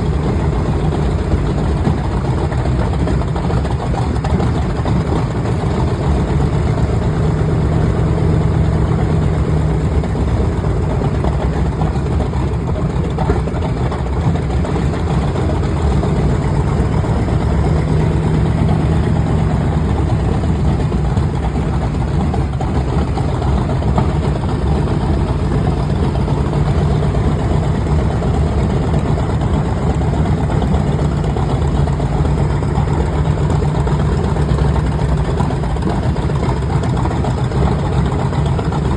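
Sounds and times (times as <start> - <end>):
radial aircraft engine running: 0.0 - 38.9.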